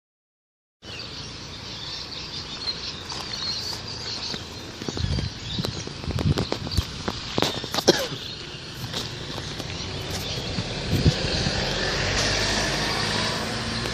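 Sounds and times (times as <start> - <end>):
birds chirping: 0.8 - 13.9
footsteps on brick path: 1.7 - 13.9.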